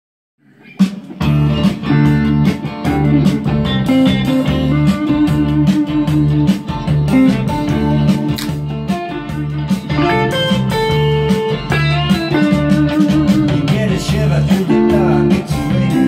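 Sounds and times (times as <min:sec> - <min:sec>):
electric guitar riff: 0:00.4 - 0:16.0.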